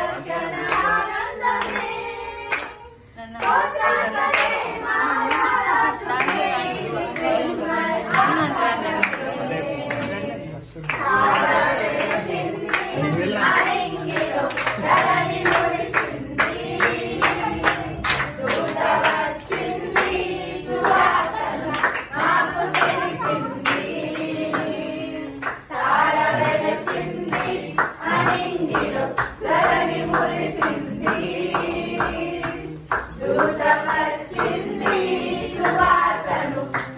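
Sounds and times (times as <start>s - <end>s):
group singing a carol: 0.0s - 36.9s
rhythmic hand-clapping: 0.0s - 36.9s.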